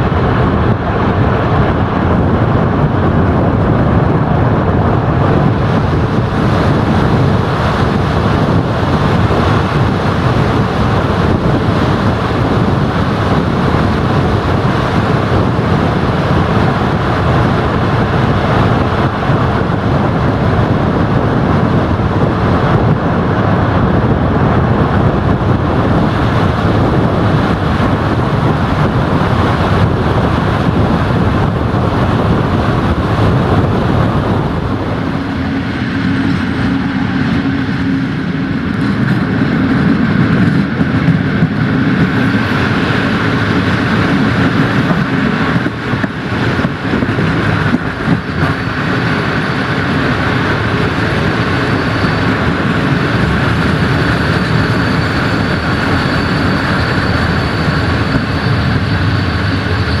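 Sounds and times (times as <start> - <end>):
air rushing past window: 0.0 - 60.0
train wheels rumbling on rails: 0.0 - 60.0.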